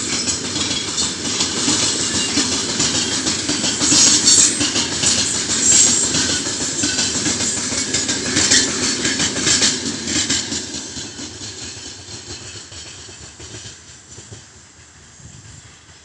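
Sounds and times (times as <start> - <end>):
wheel clacks: 0.0 - 14.5.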